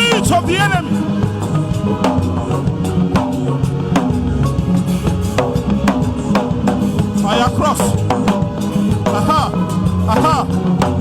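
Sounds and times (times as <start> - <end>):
drum kit beat: 0.0 - 11.0.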